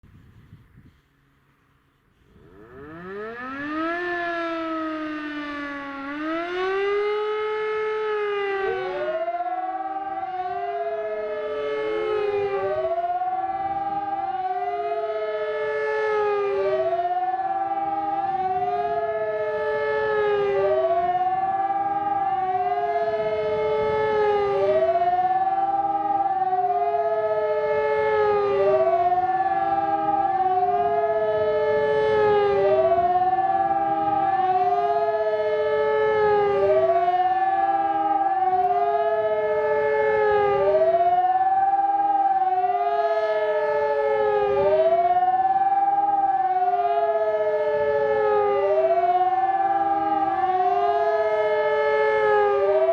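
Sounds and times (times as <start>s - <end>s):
civil defence sirens wailing: 0.0s - 52.9s.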